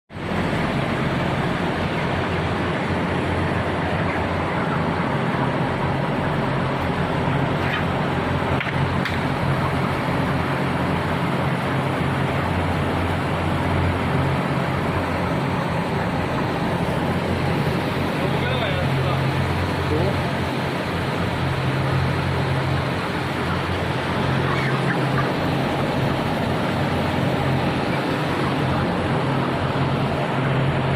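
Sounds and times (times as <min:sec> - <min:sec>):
machine drone: 0:00.1 - 0:30.9.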